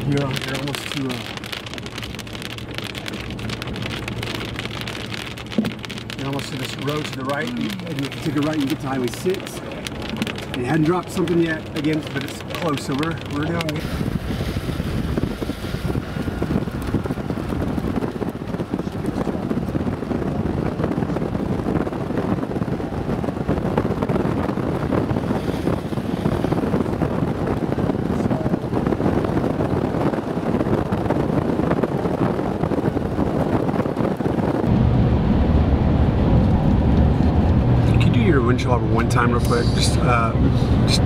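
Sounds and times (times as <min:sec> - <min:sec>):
vehicle driving on wet road: 0:00.0 - 0:41.0
wind blowing across microphone: 0:00.0 - 0:41.0.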